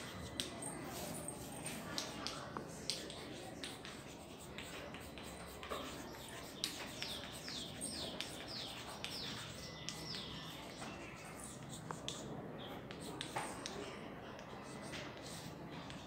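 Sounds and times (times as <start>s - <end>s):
chalk scratching on blackboard: 0.1s - 13.8s.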